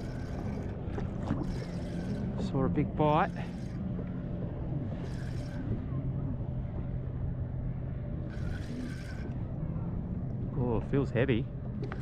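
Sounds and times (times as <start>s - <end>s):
low motor drone: 0.0s - 12.0s.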